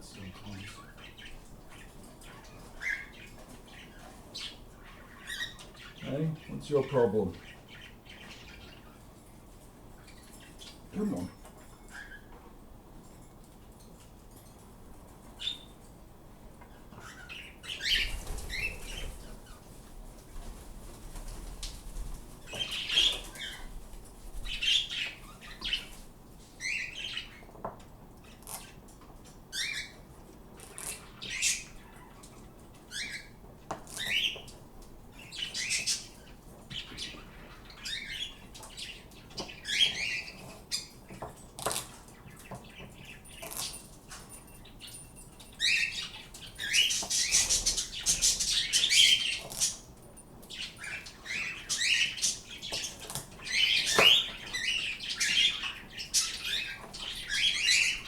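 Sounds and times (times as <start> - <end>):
pet birds chirping: 0.0 - 58.0.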